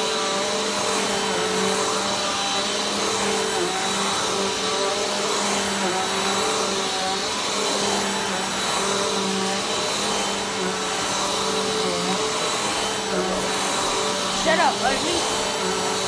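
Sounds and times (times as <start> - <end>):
vacuum cleaner on carpet: 0.0 - 16.0.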